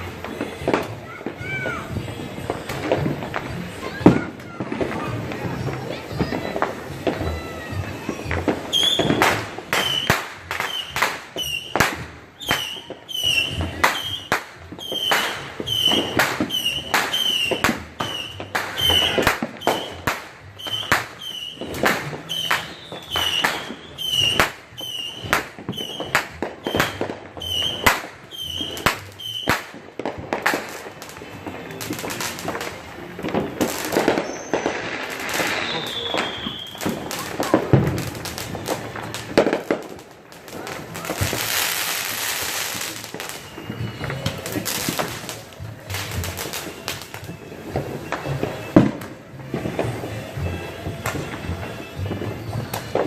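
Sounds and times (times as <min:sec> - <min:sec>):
fireworks popping: 0:00.0 - 0:53.0
fireworks whistling chirps: 0:00.0 - 0:53.0.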